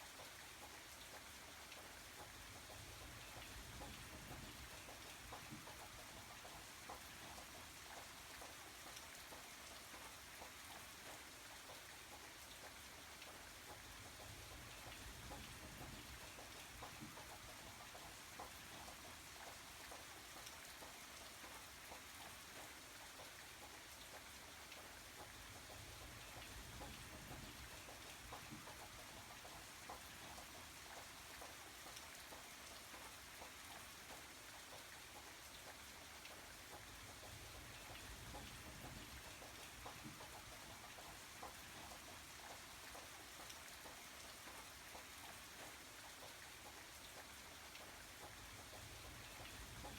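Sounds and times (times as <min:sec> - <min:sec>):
steady rain hiss: 0:00.0 - 0:49.9
raindrop ticks: 0:00.1 - 0:49.9.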